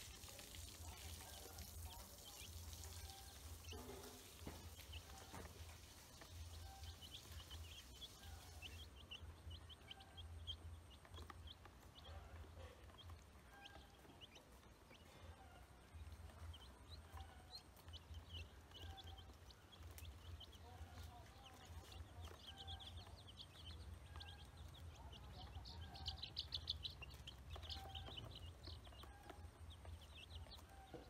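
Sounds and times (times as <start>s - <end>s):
ducklings and chicks peeping: 0.0s - 31.0s.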